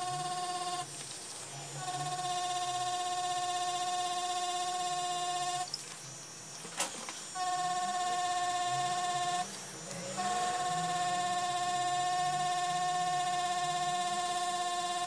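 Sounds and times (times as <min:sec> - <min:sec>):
tattoo machine motor whine: 0:00.0 - 0:15.0.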